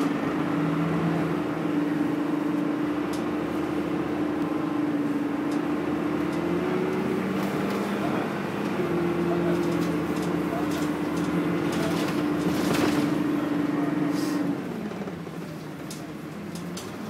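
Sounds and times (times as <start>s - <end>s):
bus engine droning hum: 0.0s - 17.0s.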